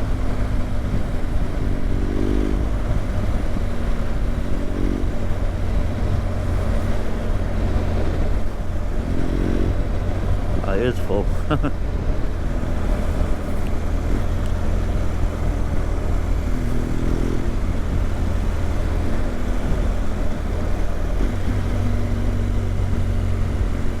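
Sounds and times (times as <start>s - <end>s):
motorcycle engine: 0.0s - 24.0s
wind and road noise: 0.0s - 24.0s.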